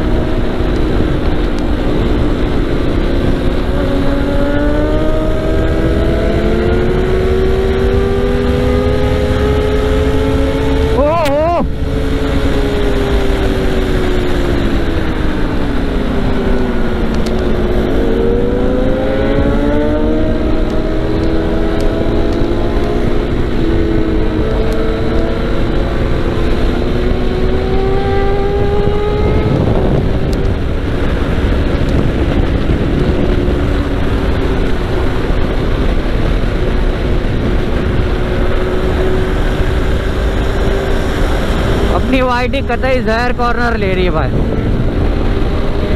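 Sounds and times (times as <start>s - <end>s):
motorcycle engine accelerating: 0.0s - 45.9s
wind rushing over microphone: 0.0s - 45.9s.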